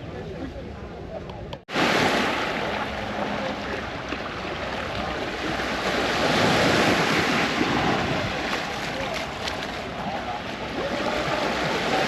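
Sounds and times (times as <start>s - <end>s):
wind on microphone: 1.5s - 12.0s
sea waves washing onto beach: 1.7s - 12.0s.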